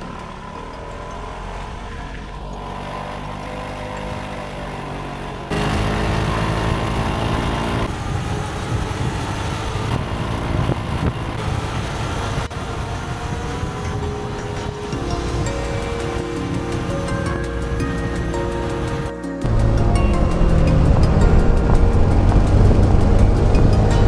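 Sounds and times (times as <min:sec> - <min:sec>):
scooter engine running: 0:00.0 - 0:24.0
wind and road noise: 0:00.0 - 0:24.0.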